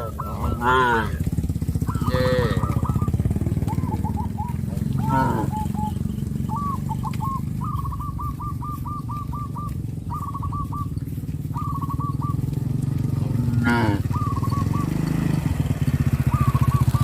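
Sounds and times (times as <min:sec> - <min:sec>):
bird chirping: 0:00.0 - 0:17.0
small engine running at low revs: 0:00.0 - 0:17.0.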